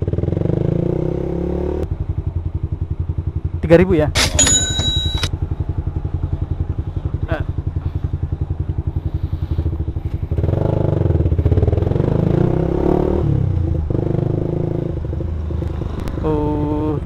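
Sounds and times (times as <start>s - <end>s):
motorcycle engine revving: 0.0s - 3.6s, 4.2s - 17.0s.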